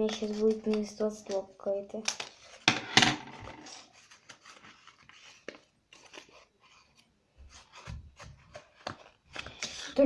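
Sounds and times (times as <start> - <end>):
paper rustling: 0.0 - 1.4, 3.4 - 10.0.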